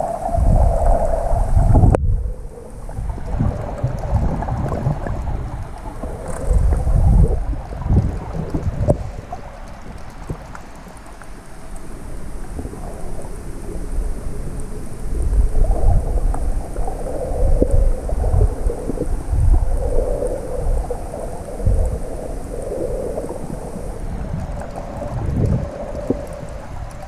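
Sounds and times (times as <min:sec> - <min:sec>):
underwater rumble of water: 0:00.0 - 0:27.0
faint ticks: 0:02.5 - 0:27.0.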